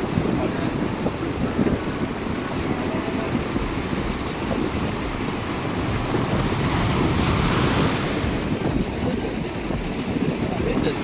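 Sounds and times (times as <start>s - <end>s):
waves washing onto shore: 0.0s - 11.0s
wind rumbling on microphone: 0.0s - 11.0s.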